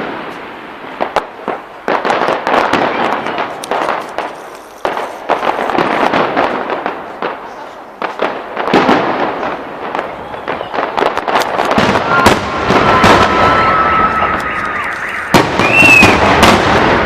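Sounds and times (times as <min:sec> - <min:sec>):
firework bangs: 0:00.0 - 0:17.0
fireworks crackling and popping: 0:00.0 - 0:17.0.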